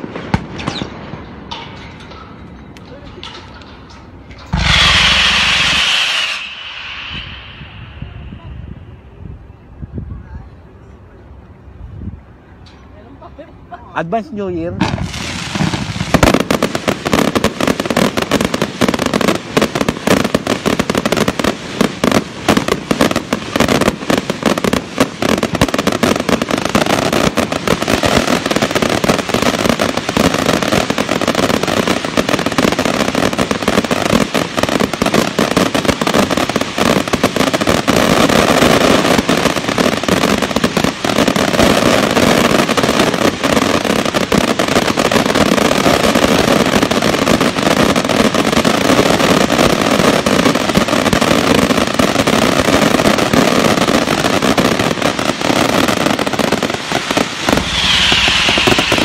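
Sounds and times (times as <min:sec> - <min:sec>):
fireworks launching and banging: 0:00.0 - 0:09.6, 0:14.5 - 0:59.0.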